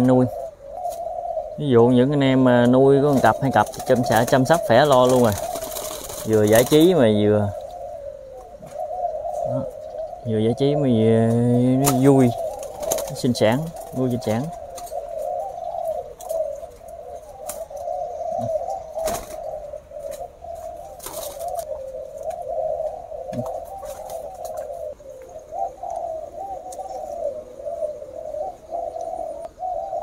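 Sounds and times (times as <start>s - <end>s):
doves cooing chorus: 0.0s - 30.0s.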